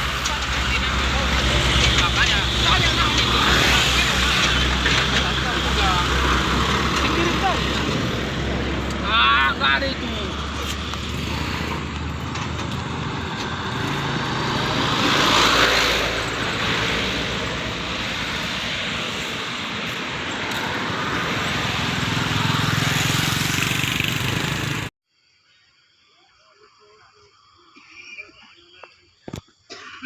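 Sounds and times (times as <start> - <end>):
vehicle engine and tyre noise: 0.0 - 24.9.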